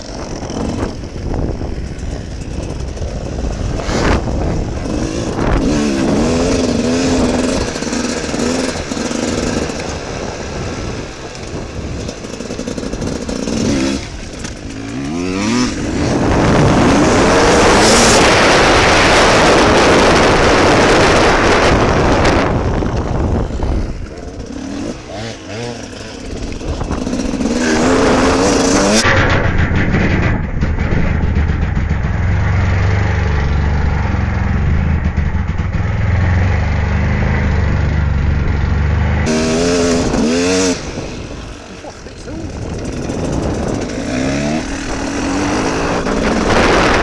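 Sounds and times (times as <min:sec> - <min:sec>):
wind over microphone: 0:00.0 - 0:36.0, 0:39.2 - 0:47.0
dirt bike engine: 0:00.0 - 0:47.0.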